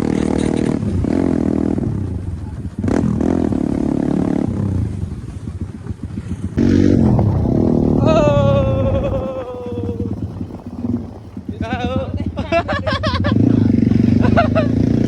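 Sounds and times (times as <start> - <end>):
dirt bike engine revving: 0.0 - 15.0
engine crackle: 0.0 - 15.0.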